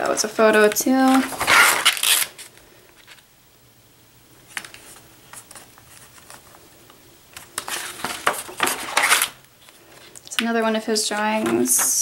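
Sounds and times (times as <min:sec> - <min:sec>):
page turning rustle: 0:00.1 - 0:03.3, 0:04.5 - 0:06.6, 0:07.3 - 0:12.0.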